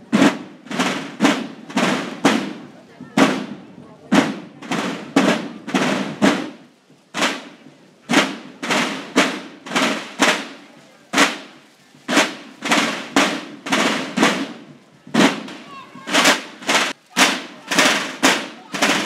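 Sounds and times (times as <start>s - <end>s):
drum beaten in steady rhythm: 0.0s - 19.0s.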